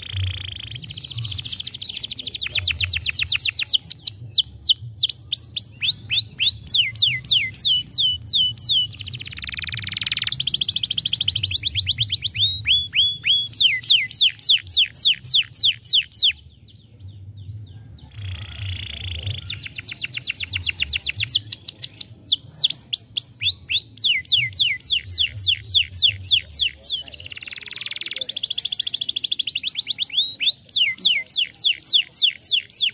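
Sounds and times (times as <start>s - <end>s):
canary singing: 0.0s - 32.9s.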